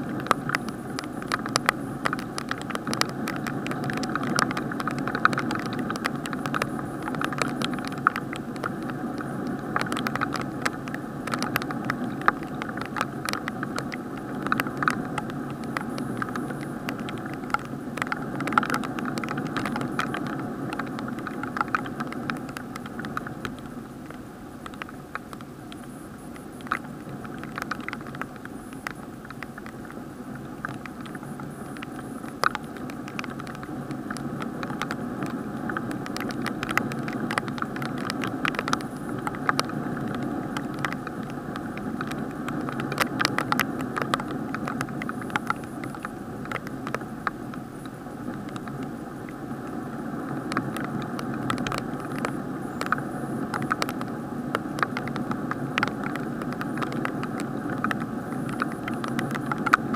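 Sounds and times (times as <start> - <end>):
muffled rain hiss: 0.0 - 59.9
raindrops tapping plastic case: 0.0 - 59.9.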